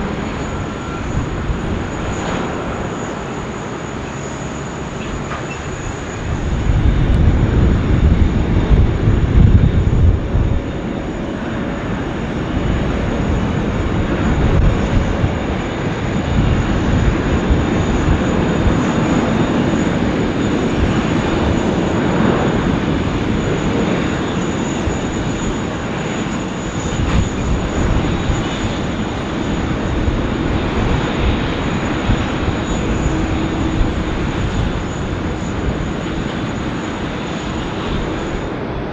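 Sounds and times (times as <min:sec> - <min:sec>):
jet engine noise: 0:00.0 - 0:38.9.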